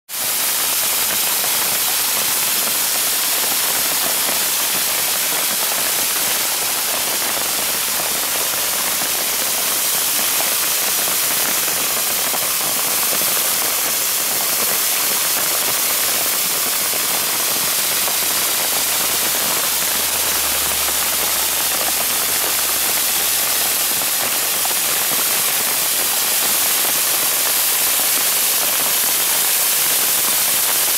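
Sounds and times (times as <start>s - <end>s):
waterfall splashing onto gravel: 0.1s - 30.9s.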